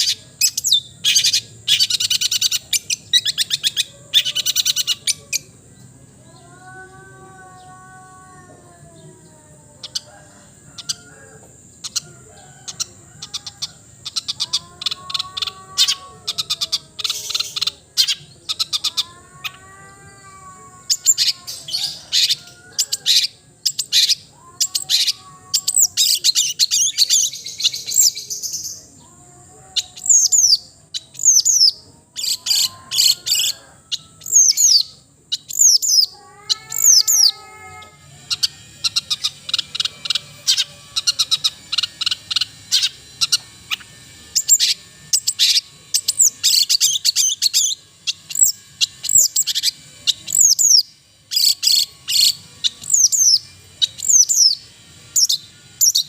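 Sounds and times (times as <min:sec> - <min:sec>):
bird singing varied song: 0:00.0 - 0:56.0.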